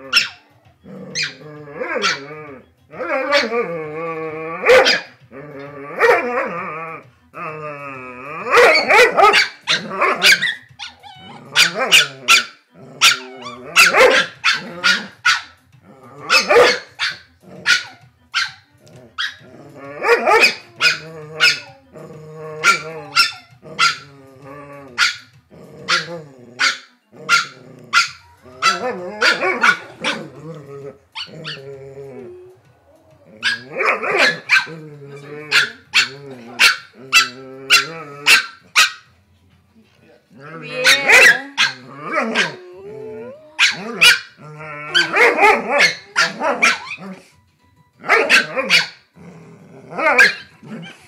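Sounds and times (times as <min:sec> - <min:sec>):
dogs barking and yapping: 0:00.0 - 0:03.7, 0:04.5 - 0:06.6, 0:08.4 - 0:15.6, 0:16.2 - 0:21.8, 0:22.6 - 0:24.1, 0:24.9 - 0:31.8, 0:33.2 - 0:39.1, 0:40.6 - 0:47.3, 0:48.0 - 0:49.1, 0:49.9 - 0:51.0
dogs growling playfully: 0:00.0 - 0:18.1, 0:18.7 - 0:38.8, 0:40.2 - 0:47.4, 0:48.2 - 0:51.0.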